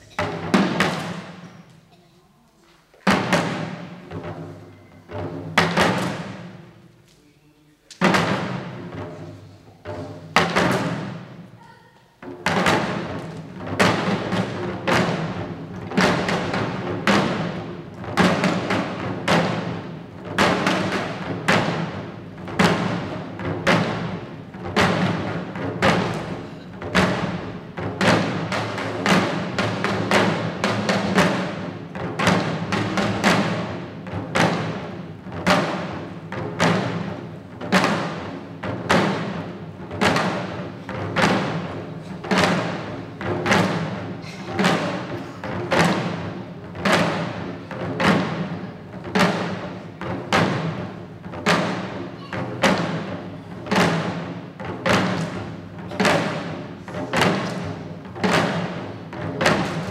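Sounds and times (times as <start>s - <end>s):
drums beaten in steady rhythm: 0.0s - 59.9s.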